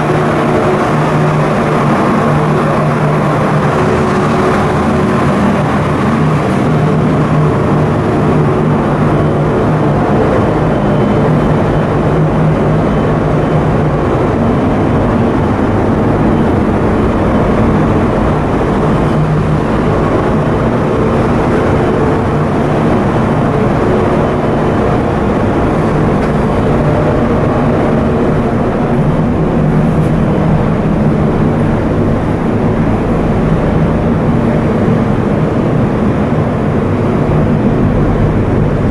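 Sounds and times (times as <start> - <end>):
ship diesel machinery drone: 0.0 - 38.9.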